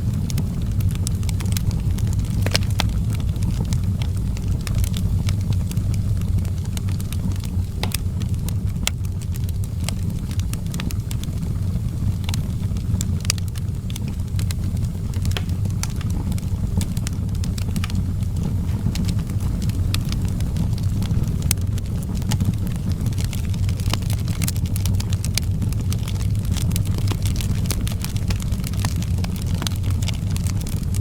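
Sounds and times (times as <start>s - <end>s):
low fire rumble: 0.0s - 31.0s
wood fire crackling and popping: 0.0s - 31.0s.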